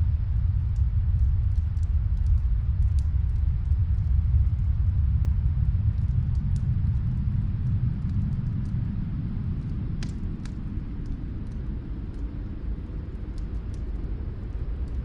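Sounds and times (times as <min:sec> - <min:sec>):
storm wind rumble: 0:00.0 - 0:15.0
fireplace crackles: 0:00.3 - 0:15.0.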